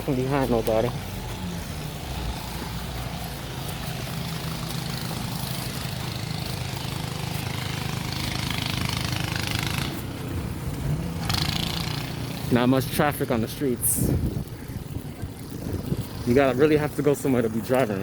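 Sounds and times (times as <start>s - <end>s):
motor engine running: 0.0s - 16.8s.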